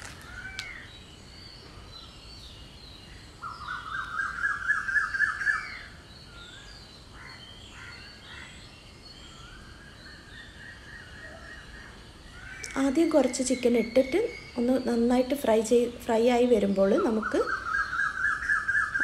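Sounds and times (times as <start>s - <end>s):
songbirds calling: 0.0s - 19.0s.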